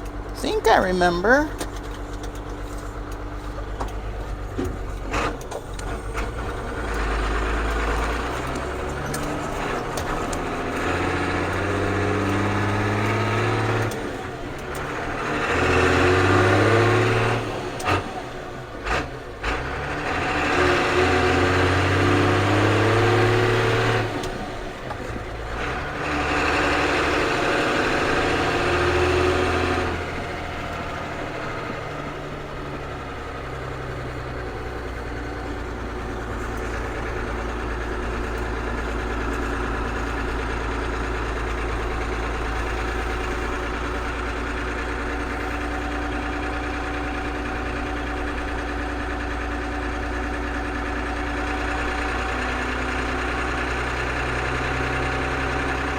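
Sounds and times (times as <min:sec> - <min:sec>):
truck diesel engine revving: 0:00.0 - 0:55.9.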